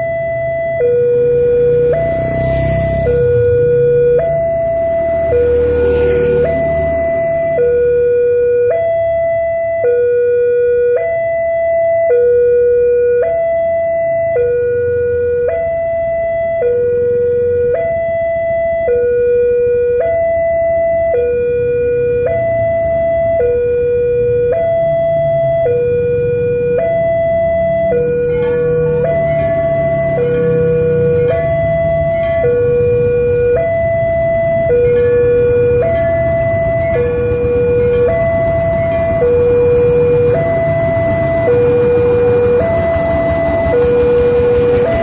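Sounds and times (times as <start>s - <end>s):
level crossing two-tone alarm: 0.0s - 45.0s.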